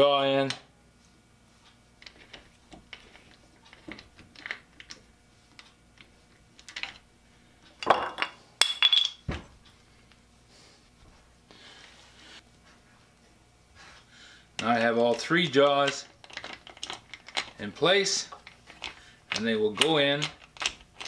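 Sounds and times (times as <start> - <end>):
faint hum: 0.0 - 20.8.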